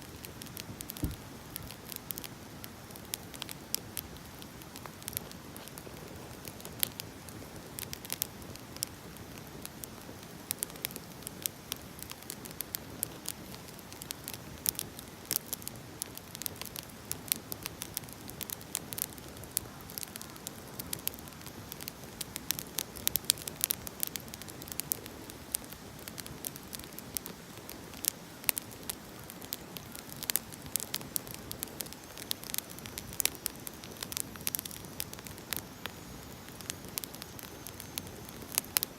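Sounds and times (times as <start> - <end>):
firewood crackling and popping: 0.0 - 38.9
soft hiss of flames: 0.0 - 38.9.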